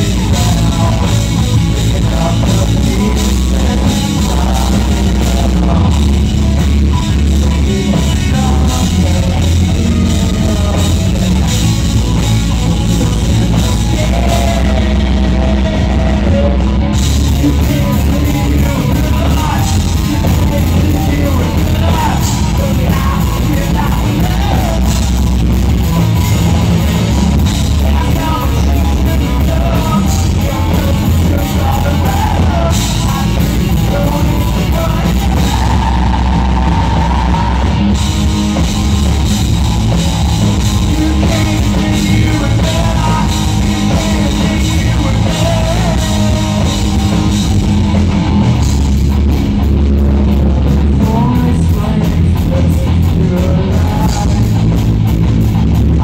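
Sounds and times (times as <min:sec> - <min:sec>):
drum kit: 0:00.0 - 0:56.0
electric bass: 0:00.0 - 0:56.0
electric guitars: 0:00.0 - 0:56.0.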